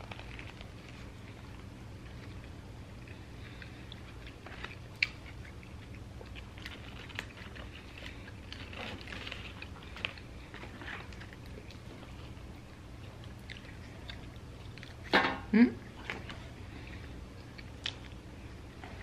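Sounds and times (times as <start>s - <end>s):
person chewing fries: 0.0s - 15.1s, 15.8s - 19.0s.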